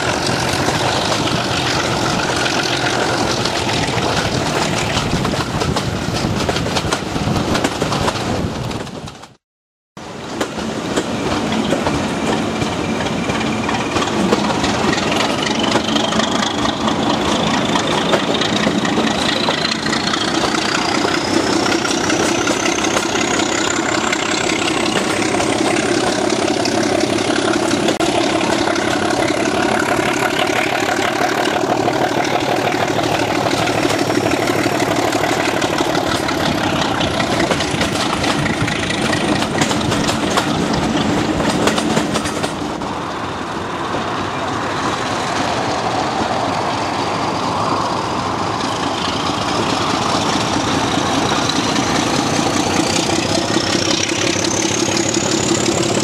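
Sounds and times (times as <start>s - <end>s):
diesel locomotive engine working hard: 0.0s - 9.4s, 10.0s - 56.0s
train rumbling and clattering on rails: 0.0s - 9.4s, 10.0s - 56.0s.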